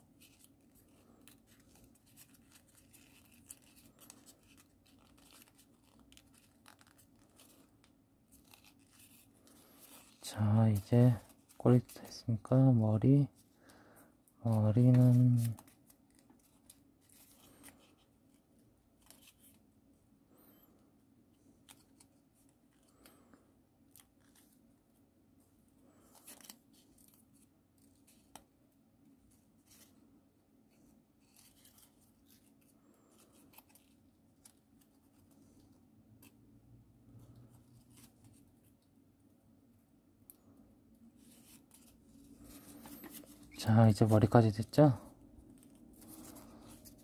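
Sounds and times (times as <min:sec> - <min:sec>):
faint room hum: 0:00.0 - 0:47.0
paper crinkling and creasing: 0:00.1 - 0:13.8, 0:14.4 - 0:19.7, 0:20.6 - 0:30.1, 0:30.7 - 0:39.0, 0:40.3 - 0:47.0.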